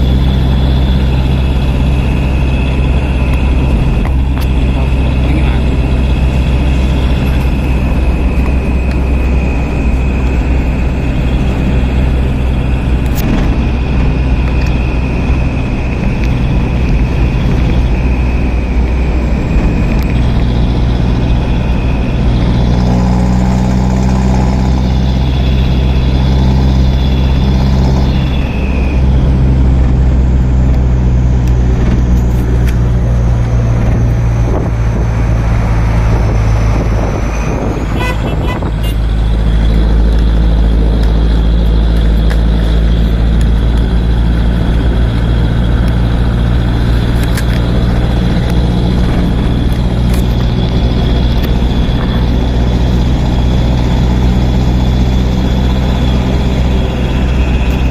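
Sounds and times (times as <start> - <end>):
heavy truck engines idling: 0.0 - 57.9
second engine revving: 0.0 - 57.9.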